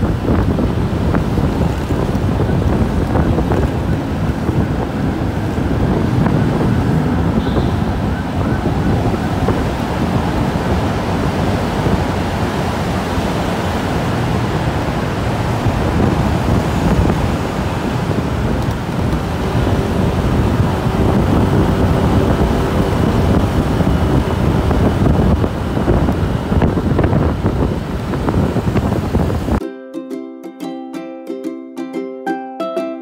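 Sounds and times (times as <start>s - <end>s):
road and traffic rumble: 0.0s - 29.6s
wind rushing on microphone: 0.0s - 29.6s.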